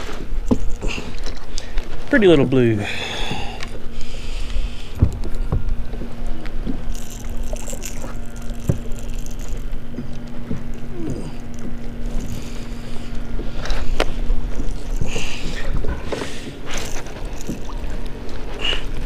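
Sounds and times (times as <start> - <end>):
faint steady hum: 0.0 - 19.0
water lapping against hull: 0.0 - 19.0.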